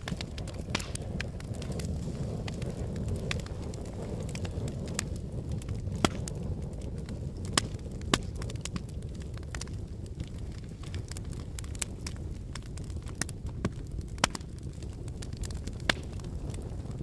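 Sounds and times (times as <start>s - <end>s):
fire crackling and popping: 0.0s - 17.0s
fire flames rushing: 0.0s - 17.0s.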